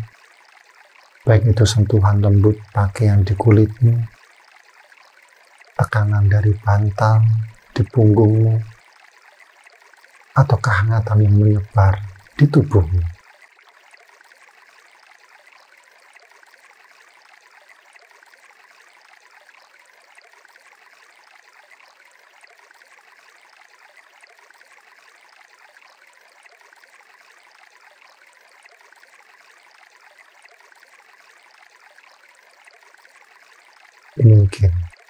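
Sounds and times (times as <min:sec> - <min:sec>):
flowing stream: 0:00.0 - 0:35.0.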